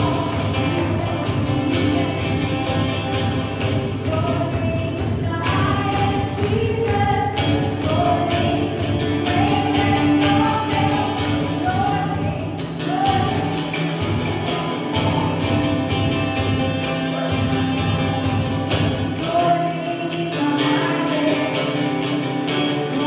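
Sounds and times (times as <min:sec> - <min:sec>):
gospel worship song with band: 0:00.0 - 0:23.0.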